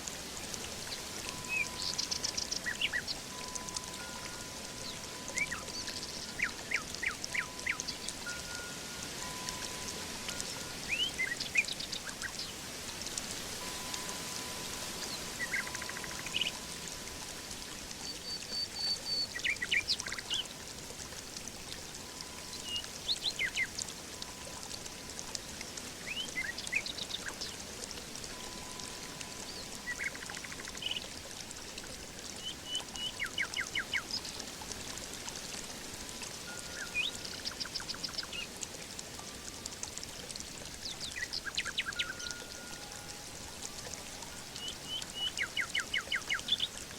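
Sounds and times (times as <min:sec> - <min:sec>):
water flowing: 0:00.0 - 0:46.9
songbirds chirping: 0:00.4 - 0:31.4, 0:32.2 - 0:38.7, 0:39.4 - 0:46.9.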